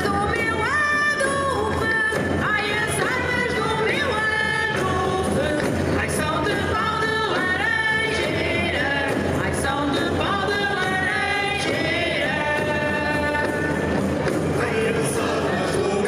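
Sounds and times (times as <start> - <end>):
folk singing group: 0.0 - 16.0
lead singer singing: 0.0 - 16.0.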